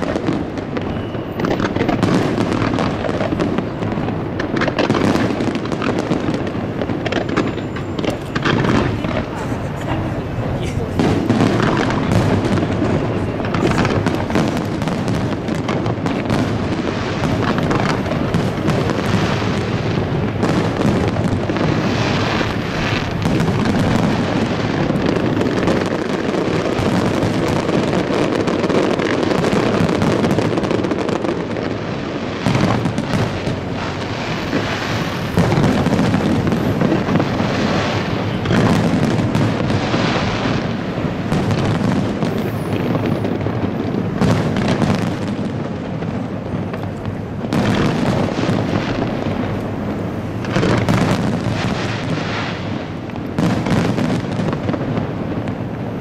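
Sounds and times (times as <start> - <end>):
firework shells bursting: 0.0 - 56.0.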